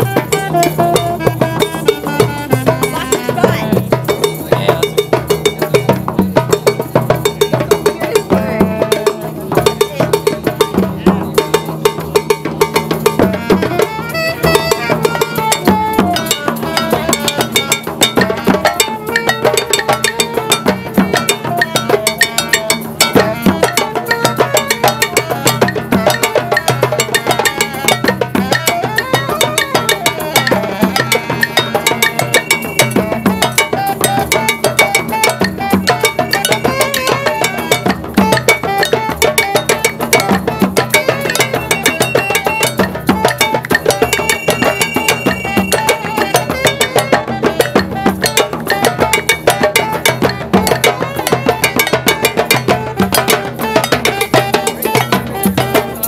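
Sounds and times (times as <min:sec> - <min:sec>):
drum circle playing: 0:00.0 - 0:56.0.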